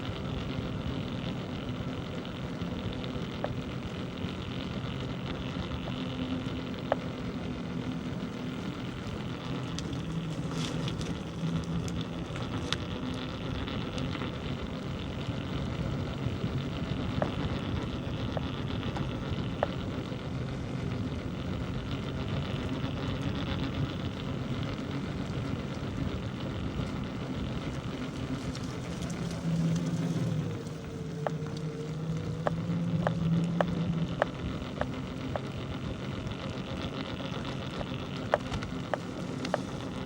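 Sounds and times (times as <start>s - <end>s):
bicycle rolling: 0.0s - 40.0s
faint low hum: 0.0s - 40.0s
sharp ticks: 1.6s - 40.0s.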